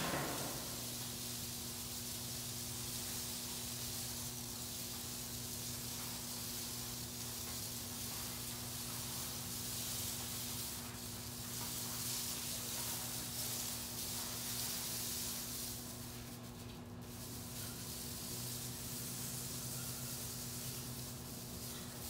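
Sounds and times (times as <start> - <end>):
low electrical hum: 0.0 - 22.0
steady hiss: 0.0 - 22.0.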